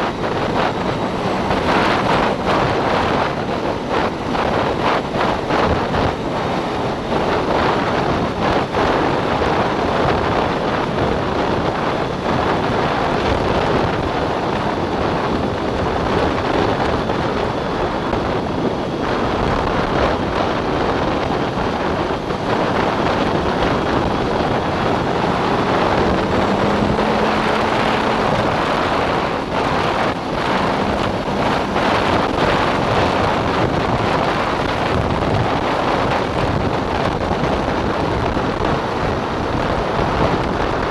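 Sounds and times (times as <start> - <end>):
snowmobile engine: 0.0 - 40.9
wind buffeting on microphone: 0.0 - 40.9.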